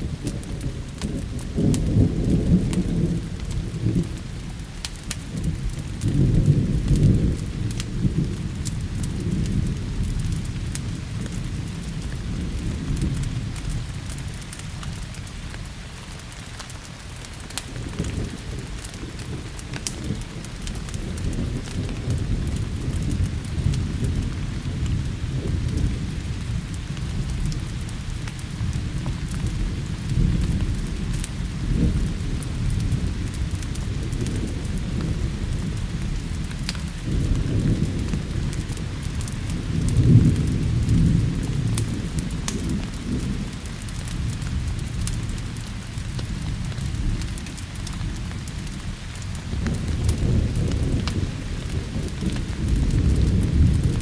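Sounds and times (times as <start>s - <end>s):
steady rain: 0.0s - 54.0s
thunder rumbling: 0.0s - 54.0s
wood fire crackling: 0.0s - 54.0s.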